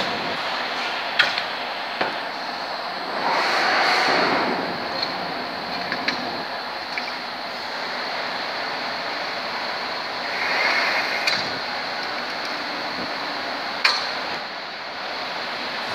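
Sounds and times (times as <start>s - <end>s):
steady rushing noise: 0.0s - 15.9s.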